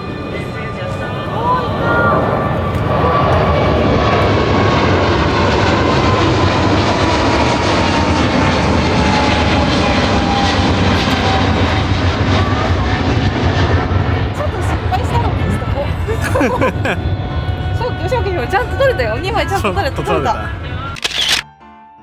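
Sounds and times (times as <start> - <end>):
jet engine whine falling in pitch: 0.0 - 21.1
jet airliner engines: 0.0 - 21.4.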